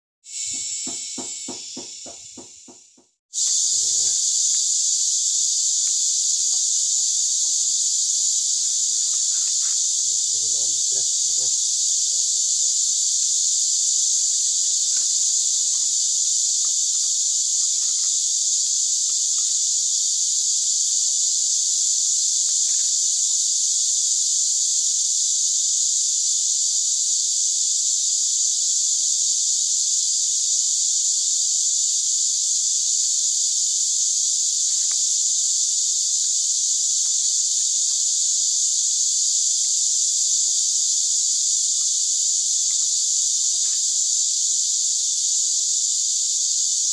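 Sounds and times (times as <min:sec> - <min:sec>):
insect chorus drone: 0:00.3 - 0:46.9.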